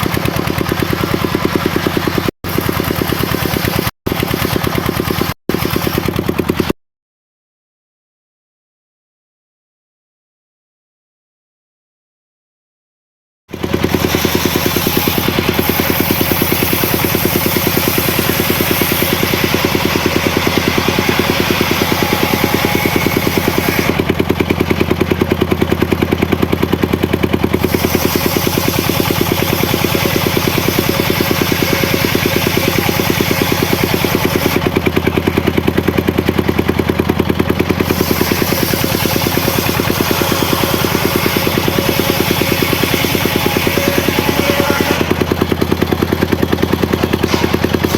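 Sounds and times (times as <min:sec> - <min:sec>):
saw engine running: 0:00.0 - 0:06.8, 0:13.5 - 0:47.9.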